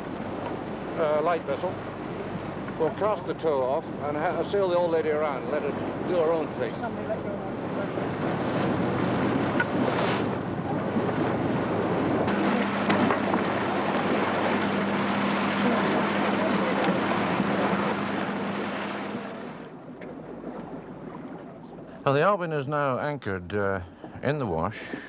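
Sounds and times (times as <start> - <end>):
low engine hum: 0.0 - 21.9
wind buffeting microphone: 0.0 - 21.9
rushing sea water: 0.0 - 25.0.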